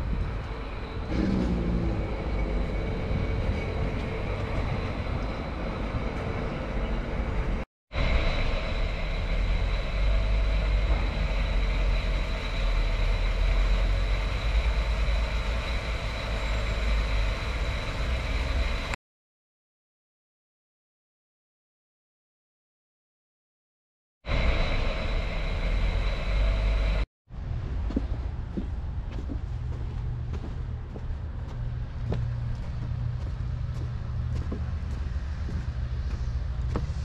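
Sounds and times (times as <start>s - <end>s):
steady low rumble: 0.0s - 19.0s, 24.3s - 37.0s.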